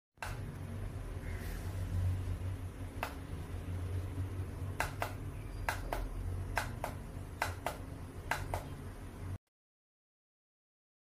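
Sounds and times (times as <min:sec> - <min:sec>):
aroma diffuser humming: 0:00.2 - 0:09.4.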